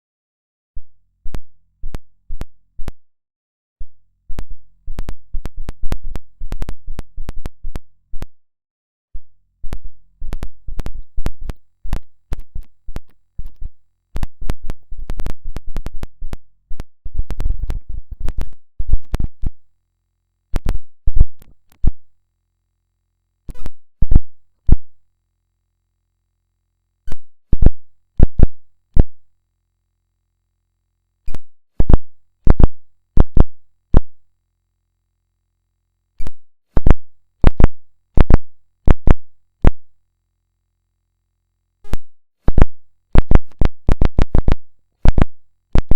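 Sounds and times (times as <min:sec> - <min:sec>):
faint low hum: 0:03.8 - 0:08.4, 0:09.2 - 0:45.9.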